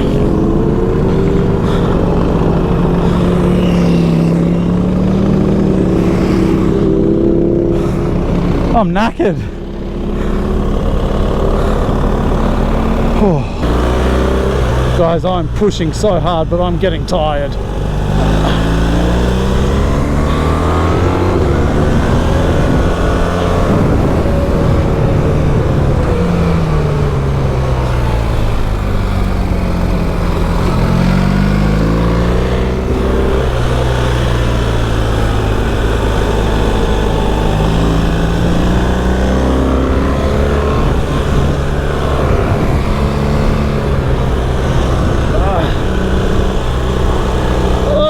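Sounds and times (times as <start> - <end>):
motorcycle engine at speed: 0.0 - 48.0
wind rumble: 0.0 - 48.0.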